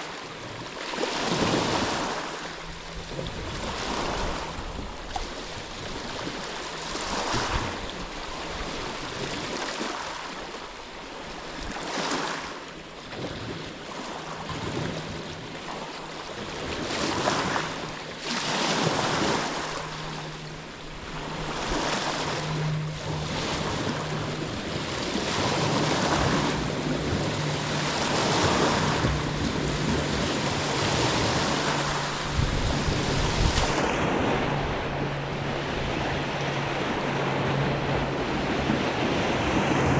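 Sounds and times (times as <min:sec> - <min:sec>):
waves breaking on a shore: 0:00.0 - 0:39.9
wind buffeting microphone: 0:01.2 - 0:09.7, 0:12.8 - 0:39.9
low steady hum: 0:01.4 - 0:09.6, 0:12.6 - 0:39.9.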